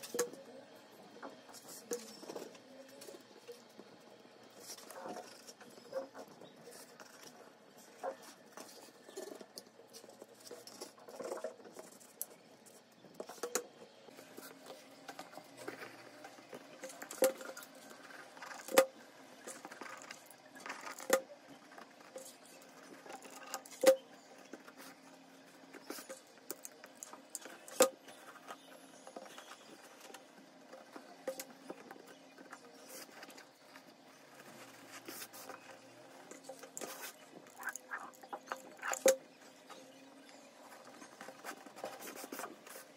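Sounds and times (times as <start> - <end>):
crafting handling noises: 0.0 - 42.9.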